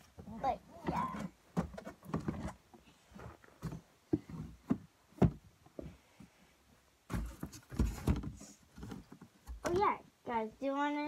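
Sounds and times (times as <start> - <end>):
soft knocks and thumps: 0.0 - 6.4, 7.0 - 10.0.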